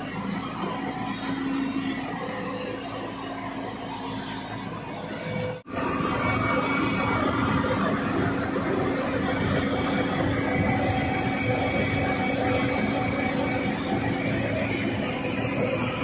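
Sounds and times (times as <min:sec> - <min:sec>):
excavator diesel engine running: 0:00.0 - 0:16.0
thin steady whine: 0:00.0 - 0:16.0.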